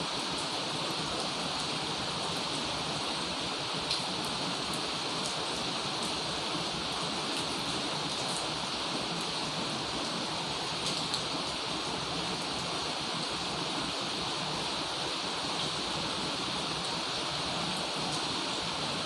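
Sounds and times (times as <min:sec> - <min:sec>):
heavy rain downpour: 0:00.0 - 0:19.0.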